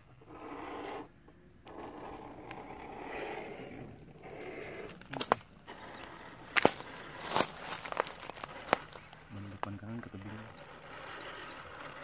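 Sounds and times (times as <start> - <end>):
small electric motor whirring: 0.3 - 12.0.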